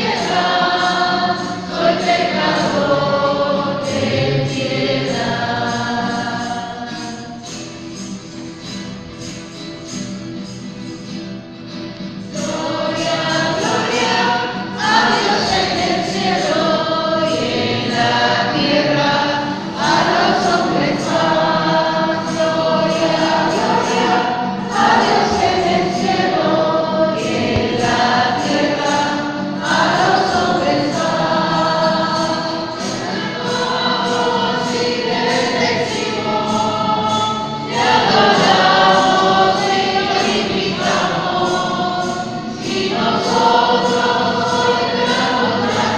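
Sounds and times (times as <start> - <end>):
choir singing a hymn: 0.0 - 9.6, 12.0 - 45.9.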